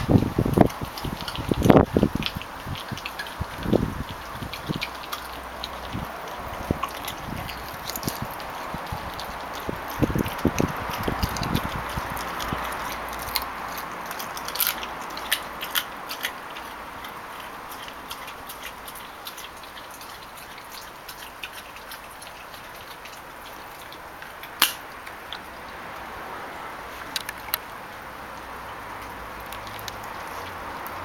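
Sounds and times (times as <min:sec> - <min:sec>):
puppy chewing bone: 0:00.0 - 0:31.0.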